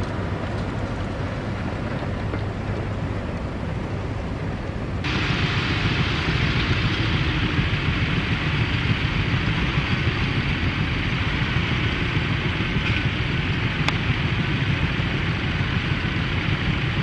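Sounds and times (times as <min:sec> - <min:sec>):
distant tractor engines: 0:00.0 - 0:17.0
wind rumble on microphone: 0:00.0 - 0:17.0.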